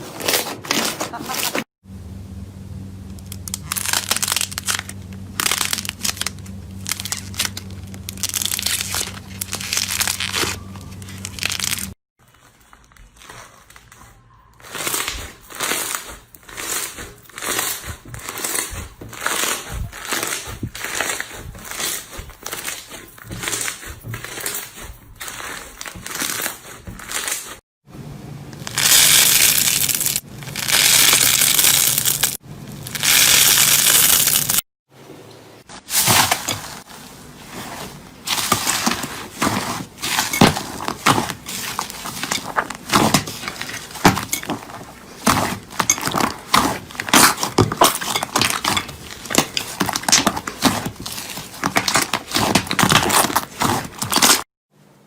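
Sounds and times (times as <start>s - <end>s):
slime crackling and popping: 3.1s - 12.0s, 12.6s - 27.6s, 28.6s - 34.6s, 38.3s - 54.4s.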